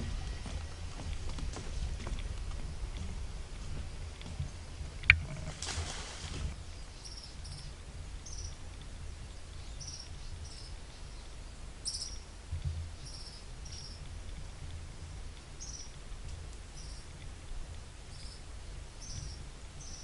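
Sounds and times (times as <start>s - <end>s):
low rumble: 0.0s - 19.6s.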